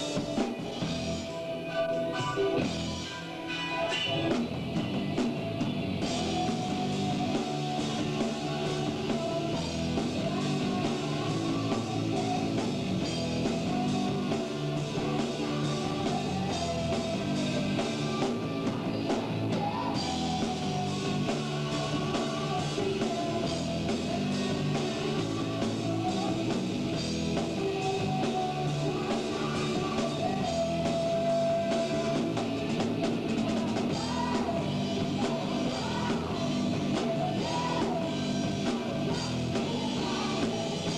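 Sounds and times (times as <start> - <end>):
drum kit: 0.0 - 40.9
electric guitar: 0.0 - 40.9
person singing: 6.0 - 40.9.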